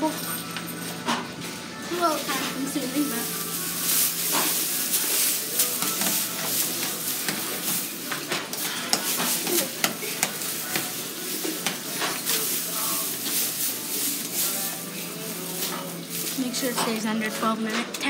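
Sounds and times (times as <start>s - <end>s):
dry straw rustling and crackling: 1.9s - 18.0s.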